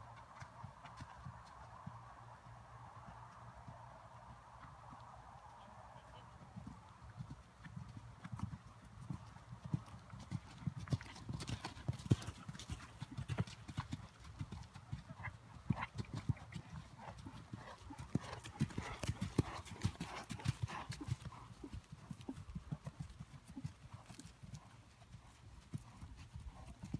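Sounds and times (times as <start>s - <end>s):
horse hooves trotting on sand: 0.0s - 26.9s.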